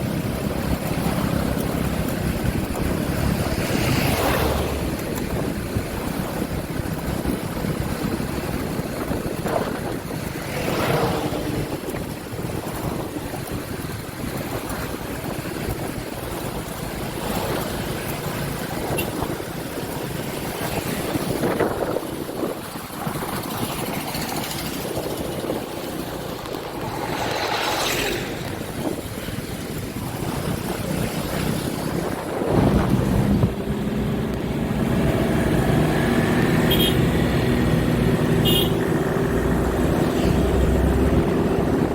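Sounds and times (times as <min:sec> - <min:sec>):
steady engine hum: 0:00.0 - 0:41.9
vehicles passing on road: 0:00.0 - 0:41.9
wind noise on microphone: 0:00.0 - 0:41.9.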